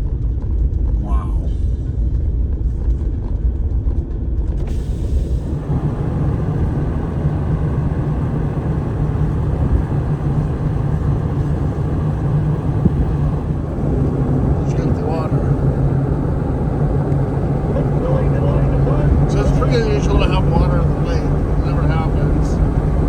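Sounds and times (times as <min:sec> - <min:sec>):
low engine drone: 0:04.4 - 0:23.0.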